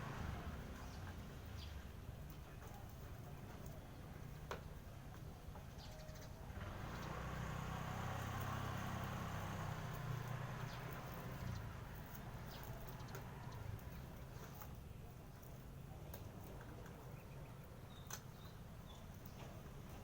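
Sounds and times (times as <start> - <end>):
birds tapping and pecking: 0.0 - 20.0.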